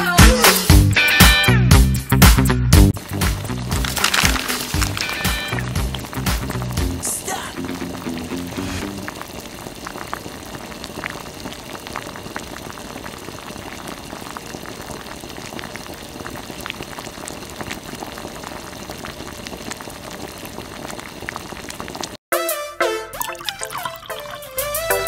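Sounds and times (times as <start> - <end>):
syrup boiling with small pops: 3.0 - 22.2, 23.2 - 24.5.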